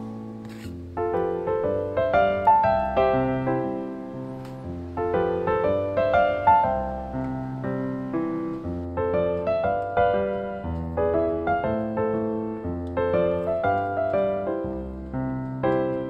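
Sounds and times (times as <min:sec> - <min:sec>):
cheerful solo piano music: 0:00.0 - 0:16.0.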